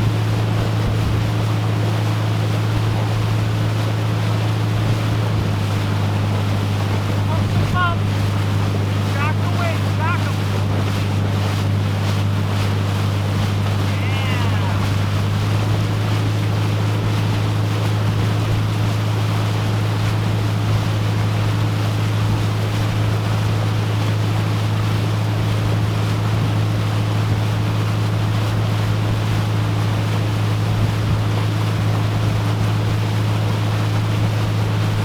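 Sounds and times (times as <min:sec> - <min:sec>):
motorboat engine droning: 0:00.0 - 0:35.0
water rushing: 0:00.0 - 0:35.0
wind: 0:00.0 - 0:35.0.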